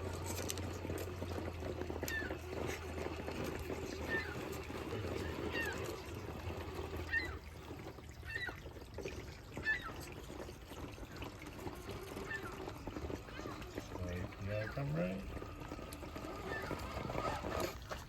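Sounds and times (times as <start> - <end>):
small electric motor whine: 0.0 - 8.6, 9.6 - 18.0
creek water trickling: 0.0 - 18.0.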